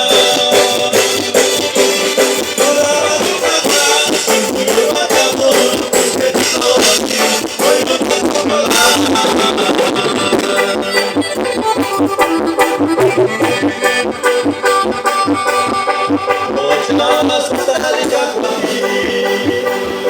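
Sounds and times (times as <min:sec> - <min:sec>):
band music with reedy melody: 0:00.0 - 0:20.0.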